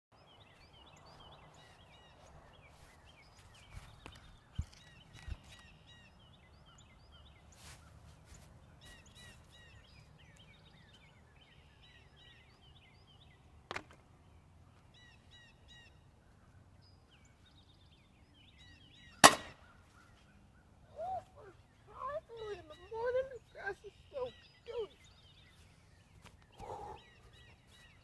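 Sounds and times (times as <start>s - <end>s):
small birds chirping: 0.1s - 28.0s.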